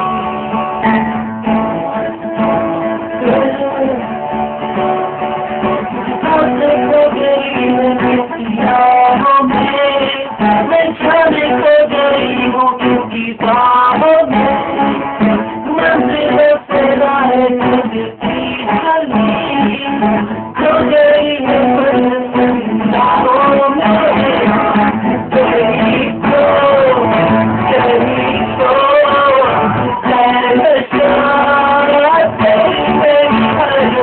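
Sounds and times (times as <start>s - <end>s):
guitar strummed and plucked: 0.0s - 34.0s.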